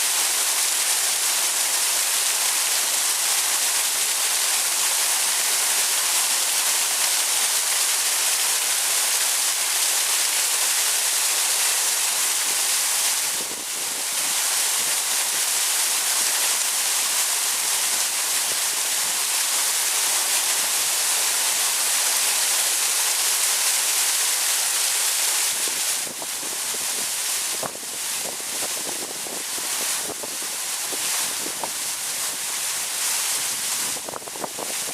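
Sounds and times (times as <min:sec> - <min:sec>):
heavy water rushing: 0:00.0 - 0:34.9.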